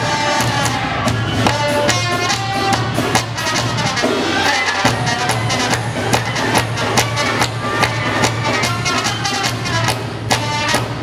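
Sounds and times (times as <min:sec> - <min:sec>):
brass horns playing melody: 0:00.0 - 0:11.0
steady drum beat: 0:00.0 - 0:11.0.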